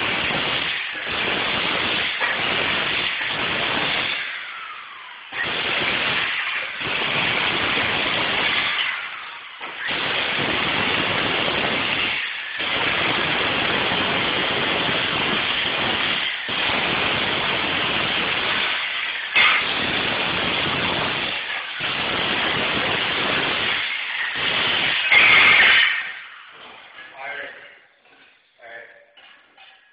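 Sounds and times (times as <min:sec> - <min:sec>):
jackhammer hammering: 0:00.0 - 0:27.1.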